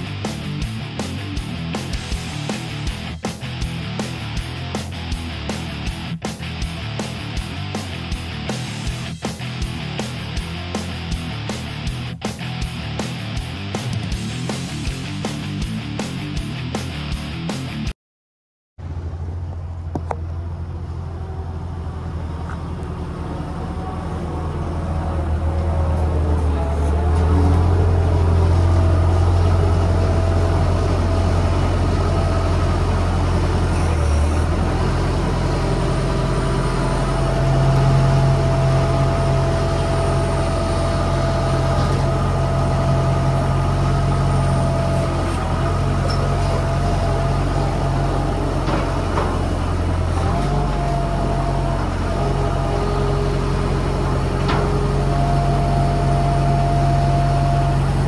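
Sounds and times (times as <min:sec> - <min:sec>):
loader engine running: 0:00.0 - 0:17.9, 0:18.8 - 0:58.0.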